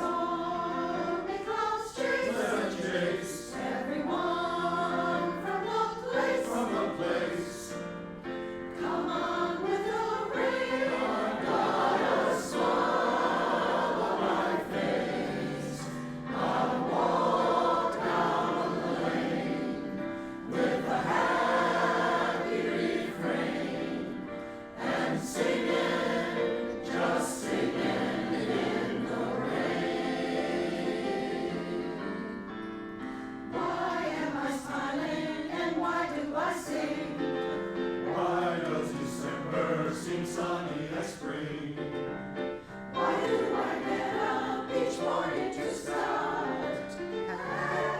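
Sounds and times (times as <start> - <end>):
choir singing in harmony: 0.0 - 47.9.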